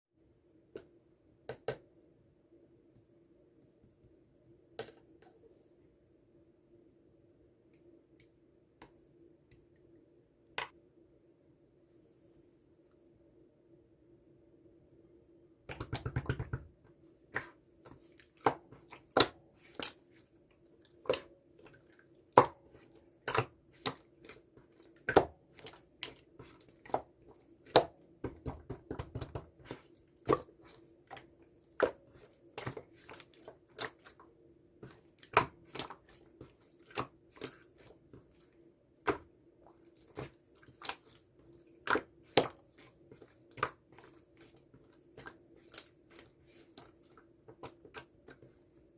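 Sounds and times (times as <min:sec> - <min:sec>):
faint steady hum: 0:00.2 - 0:48.9.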